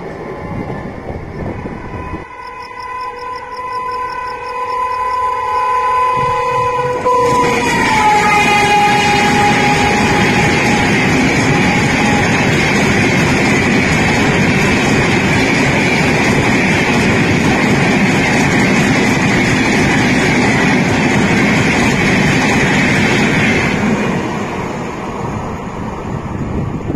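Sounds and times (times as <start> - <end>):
train wheels rushing on rail: 0.0 - 26.9.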